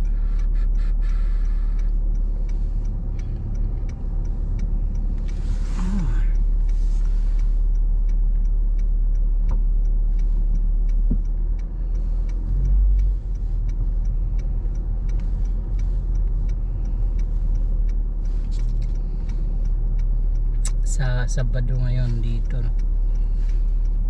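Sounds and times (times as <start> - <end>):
car cabin rumble: 0.0 - 24.0
turn signal ticking: 0.0 - 24.0.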